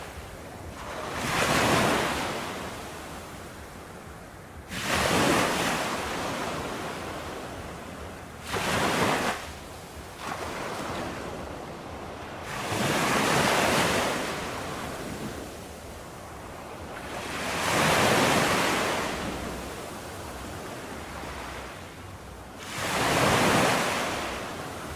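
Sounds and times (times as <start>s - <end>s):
ocean waves breaking: 0.0s - 24.9s.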